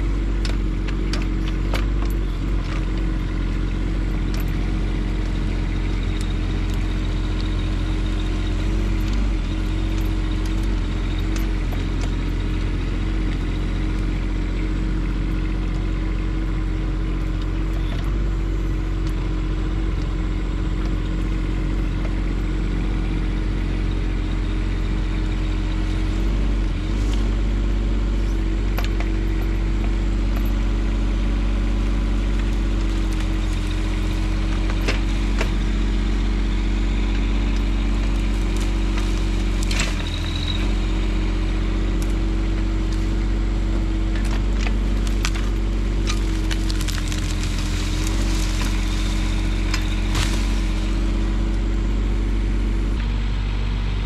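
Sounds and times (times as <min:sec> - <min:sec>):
diesel excavator engine running: 0:00.0 - 0:54.0.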